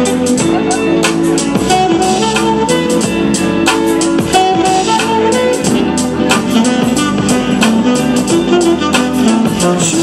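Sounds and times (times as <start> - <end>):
instrumental dance music: 0.0 - 10.0.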